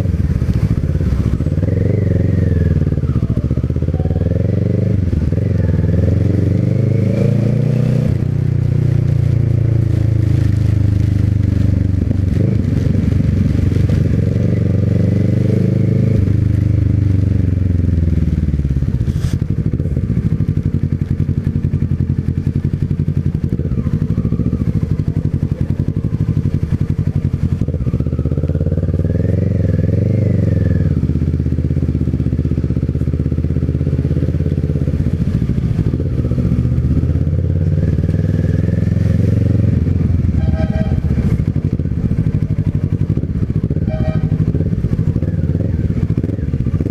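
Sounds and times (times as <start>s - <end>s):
small motorcycle engine revving: 0.0s - 46.9s.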